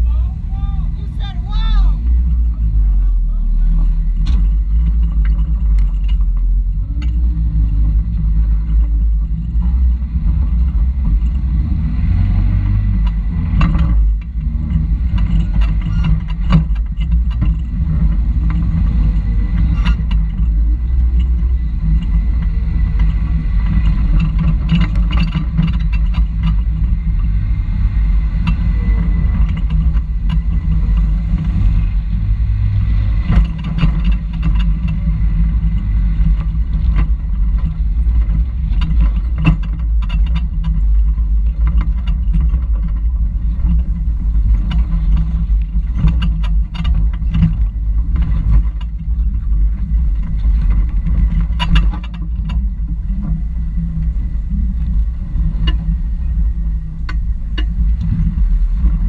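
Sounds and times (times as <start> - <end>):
chassis knocks and rattles: 0.0 - 59.0
engine running low: 0.0 - 59.0.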